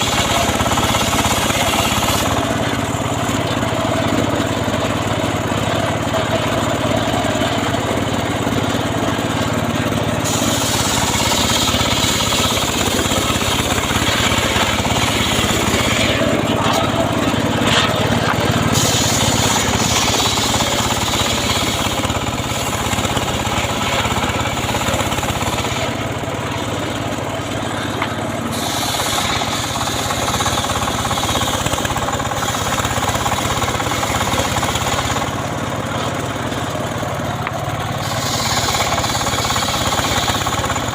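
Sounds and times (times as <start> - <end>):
saw cutting wood hissing: 0.0 - 40.9
sawmill engine running: 0.0 - 40.9.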